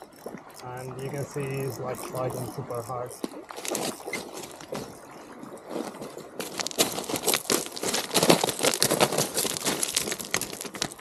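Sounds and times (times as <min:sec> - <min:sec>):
beach stones crunching: 0:00.0 - 0:11.0
footsteps on cobble shore: 0:00.0 - 0:11.0.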